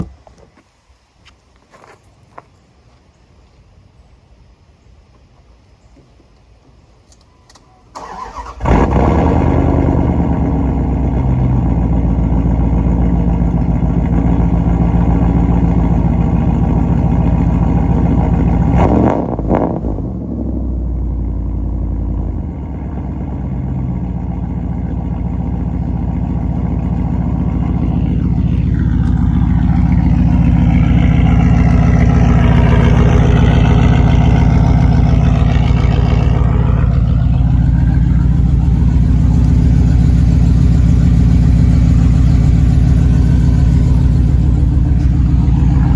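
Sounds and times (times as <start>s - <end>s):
loud engine exhaust running: 8.2s - 45.9s.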